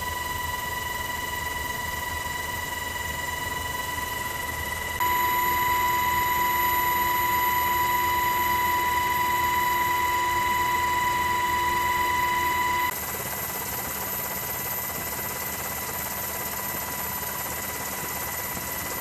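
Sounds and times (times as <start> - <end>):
helicopter gearbox whine: 0.0 - 19.0.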